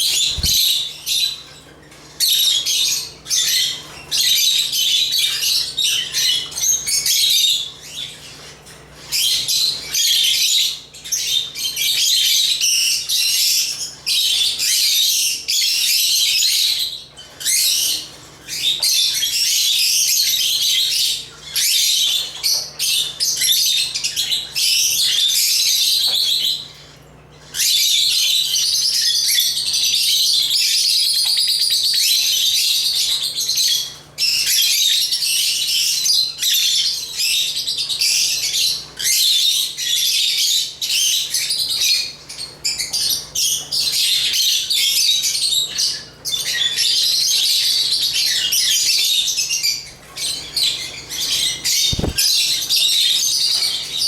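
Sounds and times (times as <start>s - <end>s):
lovebirds chirping and twittering: 0.0s - 54.0s.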